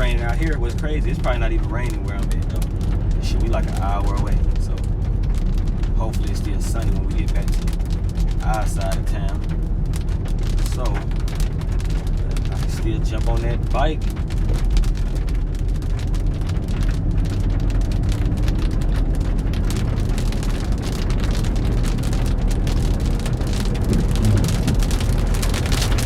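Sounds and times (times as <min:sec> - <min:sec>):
car and road rumble: 0:00.0 - 0:26.0
rain pelting a car: 0:00.0 - 0:26.0.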